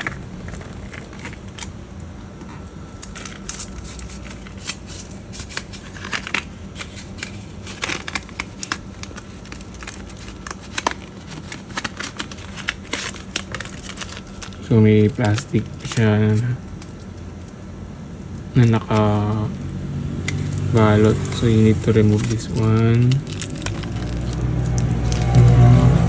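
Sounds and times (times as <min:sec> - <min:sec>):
plastic packaging crinkling: 0:00.0 - 0:01.9, 0:02.7 - 0:26.0.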